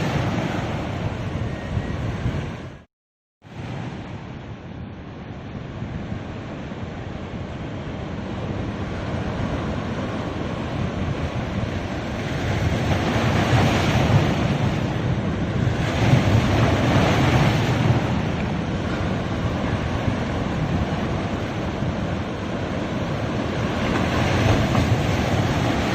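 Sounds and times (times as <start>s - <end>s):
ocean waves breaking: 0.0s - 25.9s.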